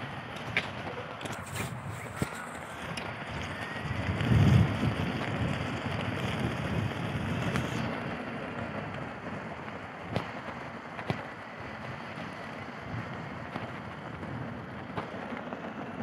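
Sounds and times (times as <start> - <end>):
electric unicycle rolling on snow: 0.0 - 16.0
wind buffeting microphone: 0.2 - 16.0.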